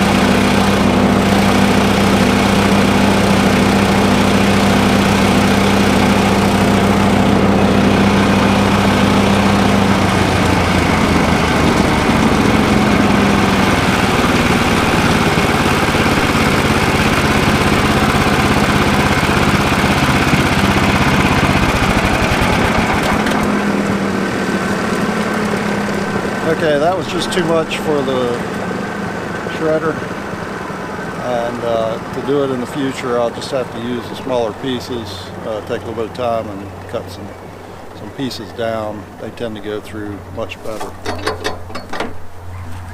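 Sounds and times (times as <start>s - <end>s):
shredder engine running: 0.0s - 41.6s.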